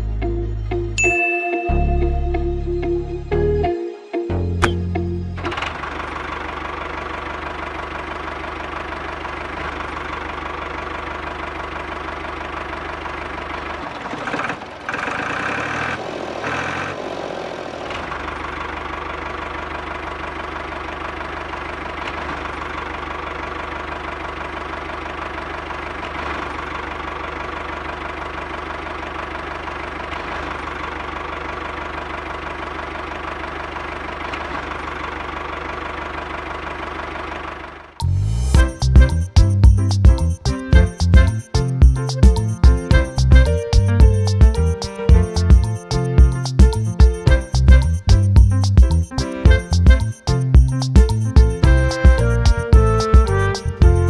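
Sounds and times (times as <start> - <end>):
diesel engine idling: 4.6 - 54.0.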